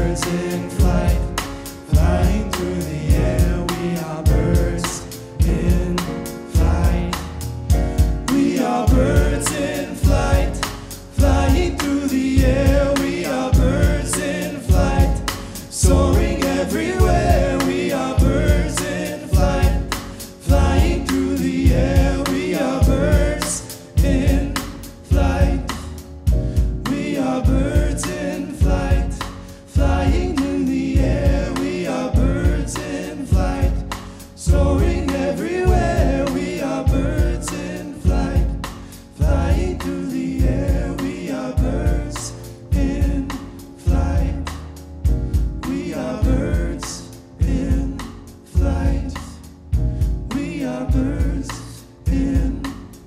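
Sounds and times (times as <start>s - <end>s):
voices singing: 0.0s - 44.8s, 45.6s - 49.5s, 50.3s - 53.0s
drum kit: 0.0s - 53.0s
grand piano: 0.0s - 53.0s
upright acoustic bass: 0.0s - 53.0s.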